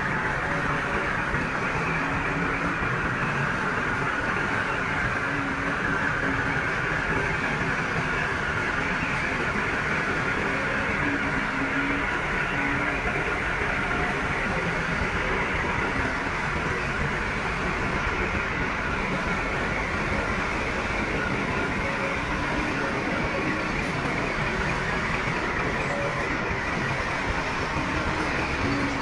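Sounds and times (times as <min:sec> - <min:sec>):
heavy construction machinery running: 0:00.0 - 0:29.0.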